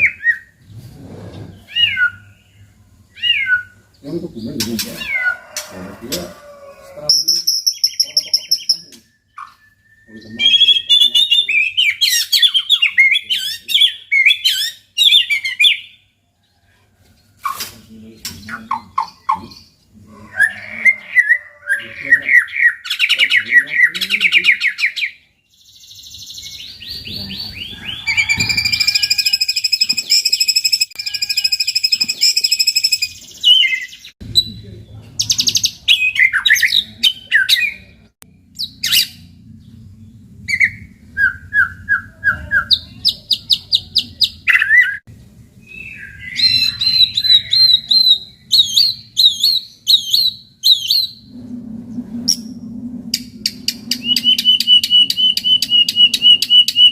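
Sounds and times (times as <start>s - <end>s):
songbird singing varied song: 1.4s - 6.2s, 7.1s - 16.1s, 18.0s - 51.3s, 53.4s - 56.9s.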